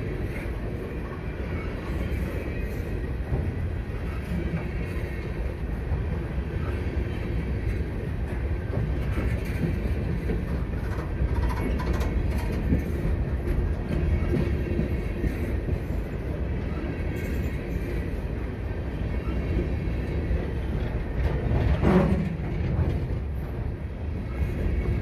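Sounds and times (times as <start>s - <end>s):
clickety-clack over rail joints: 0.0s - 25.0s
freight train rolling past: 0.0s - 25.0s.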